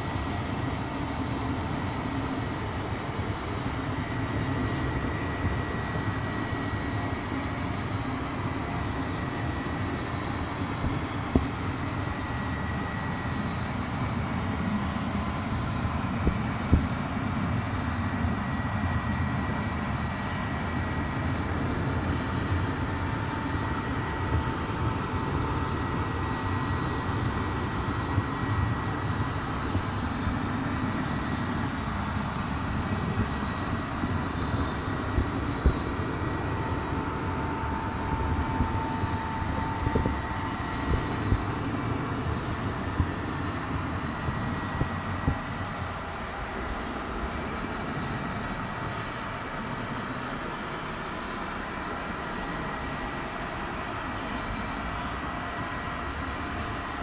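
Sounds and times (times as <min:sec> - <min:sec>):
faint whining tones: 0:00.0 - 0:57.0.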